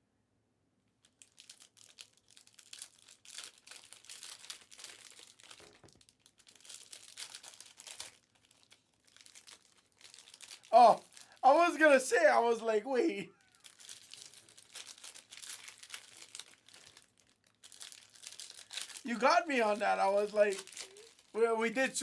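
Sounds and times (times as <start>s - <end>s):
foil wrappers crinkling and tearing: 1.0s - 22.0s.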